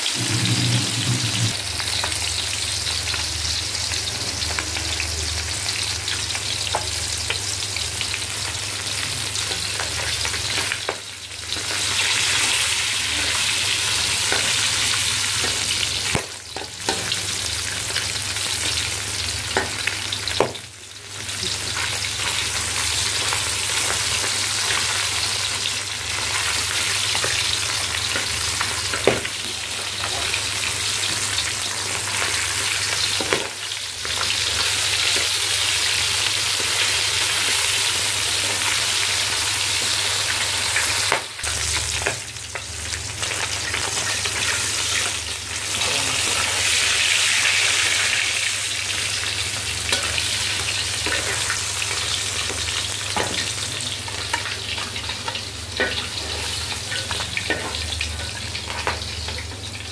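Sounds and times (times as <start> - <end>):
fish deep-frying in hot oil: 0.0 - 59.9.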